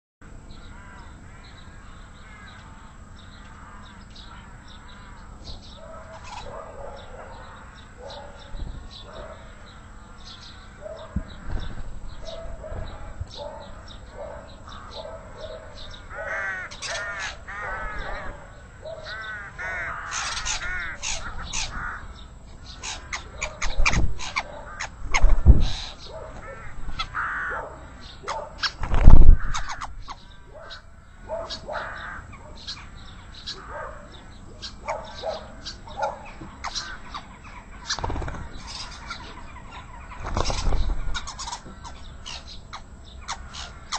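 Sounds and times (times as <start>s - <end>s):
birds chirping and singing: 0.2s - 43.9s
harsh bird calls: 0.2s - 43.9s.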